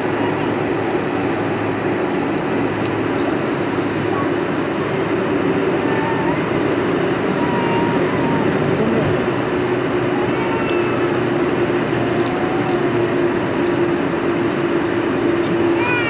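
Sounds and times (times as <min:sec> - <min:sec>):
jet engine cabin hum: 0:00.0 - 0:16.0.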